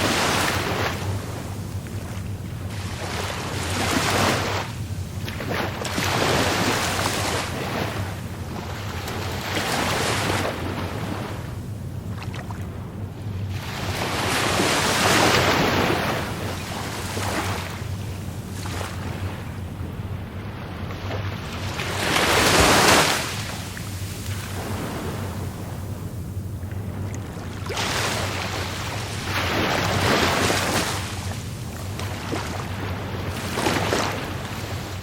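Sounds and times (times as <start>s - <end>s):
steady low rumble: 0.0s - 35.0s
waves surging and breaking: 0.0s - 35.0s.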